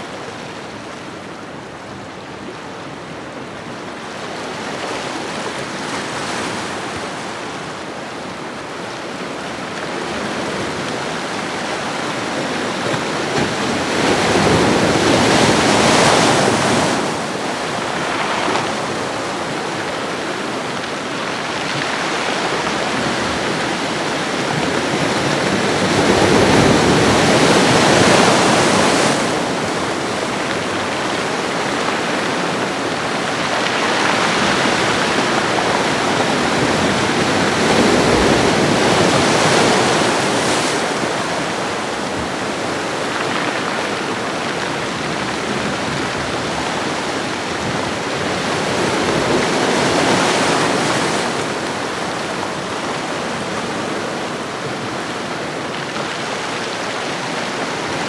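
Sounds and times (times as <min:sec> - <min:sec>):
large waves breaking: 0:00.0 - 0:58.0.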